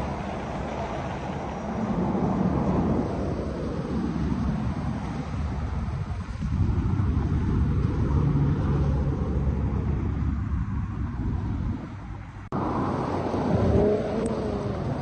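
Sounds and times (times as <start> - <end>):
road traffic rumble: 0.0 - 15.0
wind on microphone: 0.0 - 15.0.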